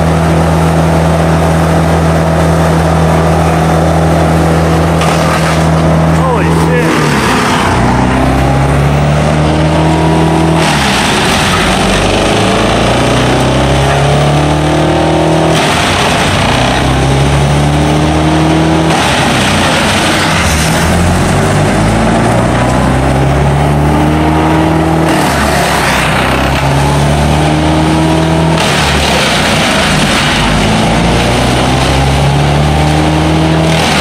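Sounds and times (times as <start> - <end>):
wood chipper engine running: 0.0 - 34.0.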